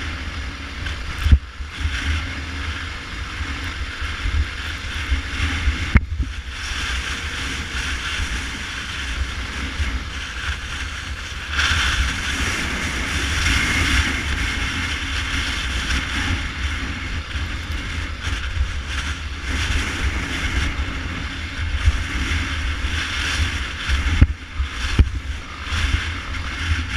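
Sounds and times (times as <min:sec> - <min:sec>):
motorcycle engine running: 0:00.0 - 0:26.9
wind buffeting microphone: 0:00.0 - 0:26.9.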